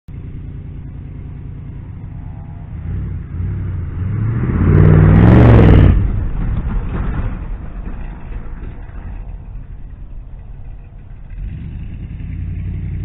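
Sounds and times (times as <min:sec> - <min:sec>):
truck engine idling and revving: 0:00.1 - 0:13.0.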